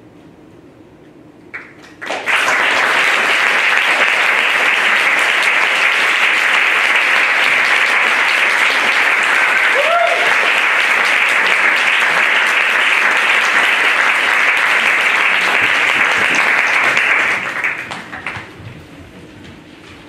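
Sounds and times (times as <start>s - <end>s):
audience applauding: 1.5s - 18.6s.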